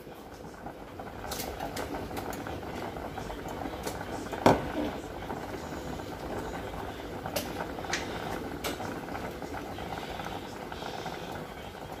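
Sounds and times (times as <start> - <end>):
pot bubbling and hissing: 0.0 - 12.0.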